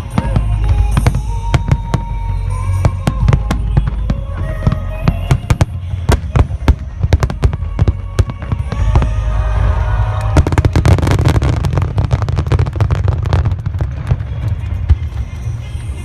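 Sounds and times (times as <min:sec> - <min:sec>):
deep rumble: 0:00.0 - 0:16.0
fireworks bangs and crackles: 0:00.0 - 0:16.0
music playing: 0:00.0 - 0:16.0.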